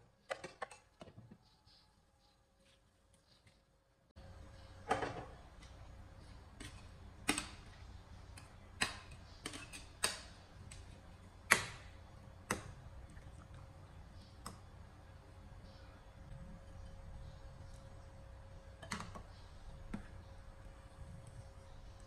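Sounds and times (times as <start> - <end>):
low steady hum: 1.1 - 22.0.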